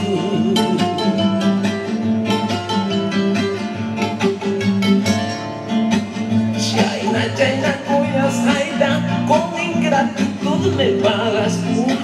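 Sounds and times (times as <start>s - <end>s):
guitar: 0.0s - 12.0s
live band playing: 0.0s - 12.0s.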